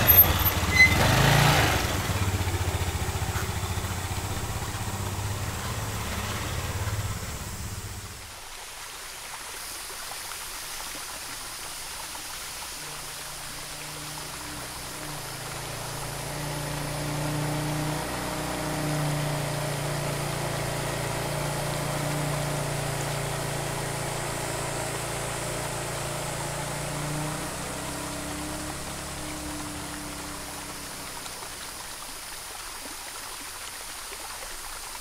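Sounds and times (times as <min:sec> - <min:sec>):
rushing hiss: 0:00.0 - 0:32.7.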